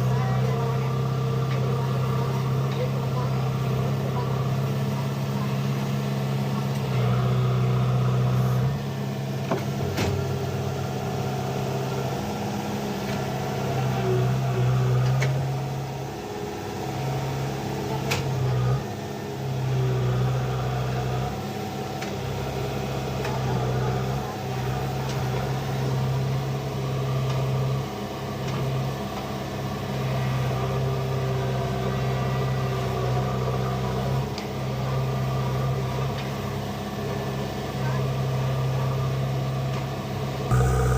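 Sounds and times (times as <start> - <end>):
backhoe diesel engine running: 0.0 - 39.6, 40.5 - 40.9.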